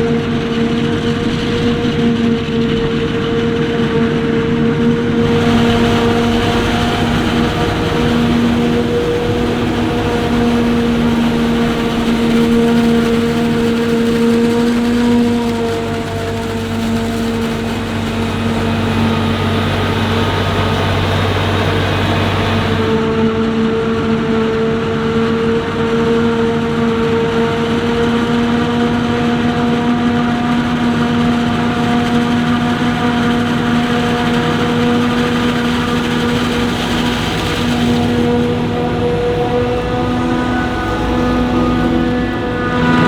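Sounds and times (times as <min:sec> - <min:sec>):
machinery whine: 0:00.0 - 0:24.1, 0:26.9 - 0:43.0
harvester engine drone: 0:00.0 - 0:43.0.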